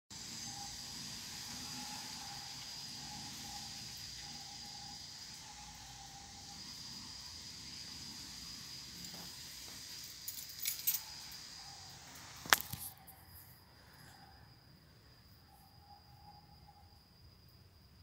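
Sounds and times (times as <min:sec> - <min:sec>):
night insects trilling: 0:00.1 - 0:18.0.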